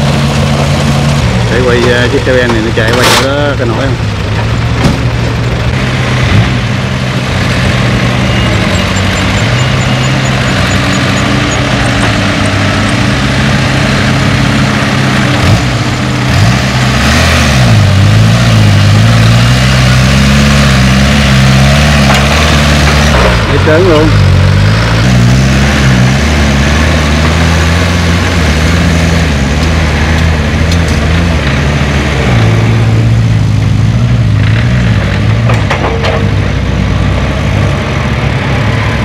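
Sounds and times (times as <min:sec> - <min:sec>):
dump truck engines in low gear: 0:00.0 - 0:39.0.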